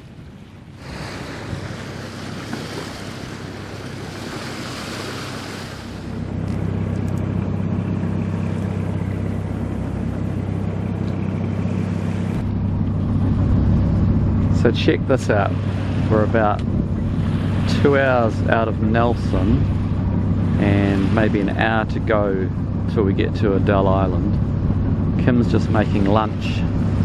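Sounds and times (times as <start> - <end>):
boat engine droning: 0.0 - 27.0
water and wind rushing: 0.0 - 27.0.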